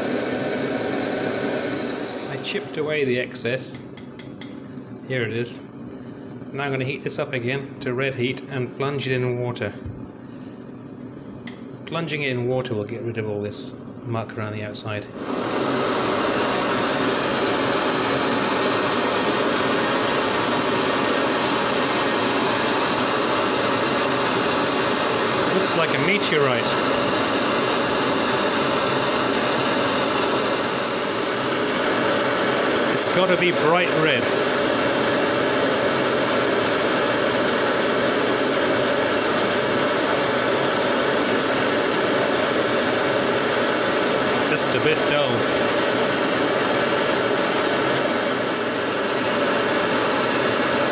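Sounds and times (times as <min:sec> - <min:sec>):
gas torch flame hissing: 0:00.0 - 0:07.4, 0:15.1 - 0:50.9.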